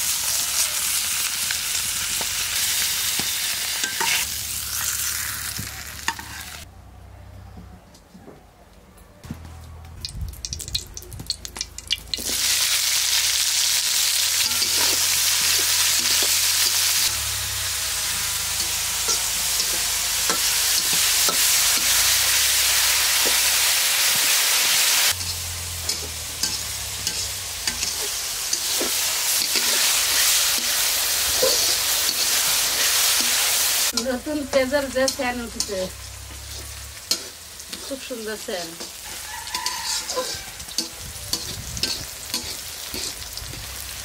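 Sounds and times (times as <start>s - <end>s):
food sizzling in hot oil: 0.0s - 6.7s, 10.0s - 44.0s.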